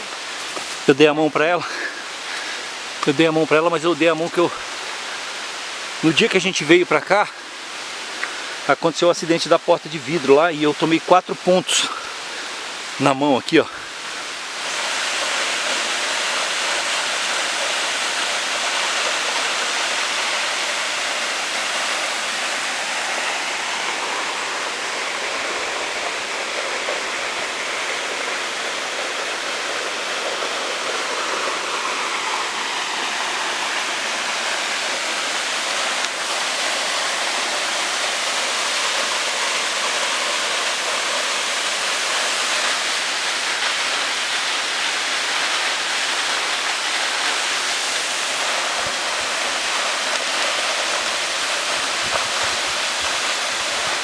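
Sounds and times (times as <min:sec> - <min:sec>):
waterfall pouring: 0:00.0 - 0:54.0.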